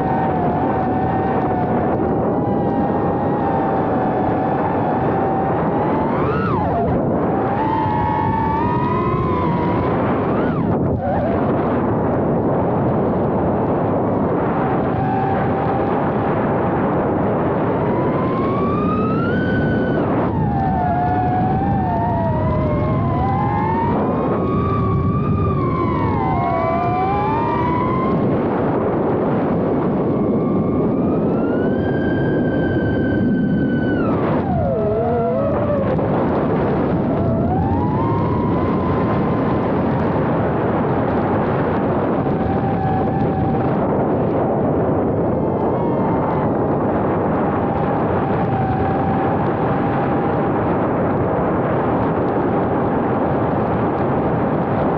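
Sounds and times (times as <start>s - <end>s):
quadcopter motors whining: 0.0s - 51.8s
rush of prop wash and wind: 0.0s - 54.9s.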